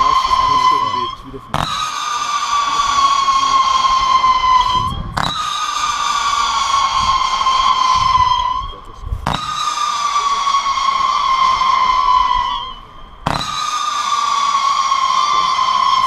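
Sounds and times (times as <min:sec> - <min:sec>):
firework whistle: 0:00.0 - 0:16.0.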